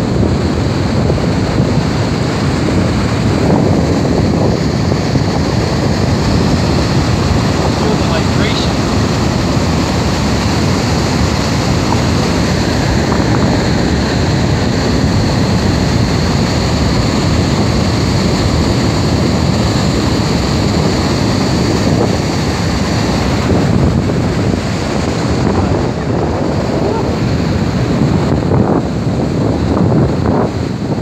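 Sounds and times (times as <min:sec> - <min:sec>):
loud rush of waterfall: 0:00.0 - 0:31.0.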